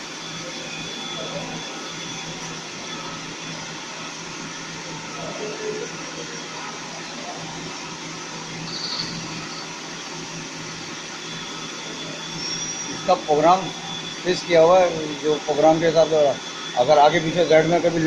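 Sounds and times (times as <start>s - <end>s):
milling machine hum and whir: 0.0s - 18.0s.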